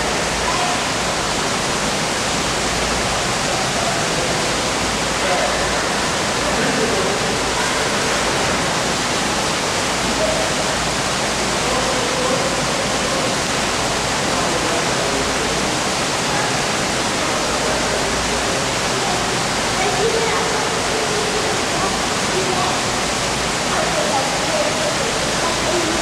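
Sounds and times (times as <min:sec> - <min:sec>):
faint voices: 0:00.0 - 0:26.0
running water rushing: 0:00.0 - 0:26.0.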